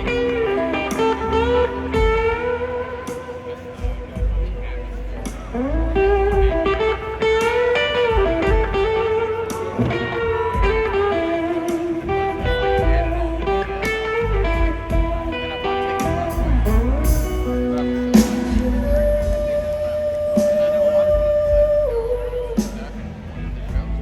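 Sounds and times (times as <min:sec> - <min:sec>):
bass: 0:00.0 - 0:24.0
drums: 0:00.0 - 0:24.0
electric guitar lead: 0:00.0 - 0:24.0.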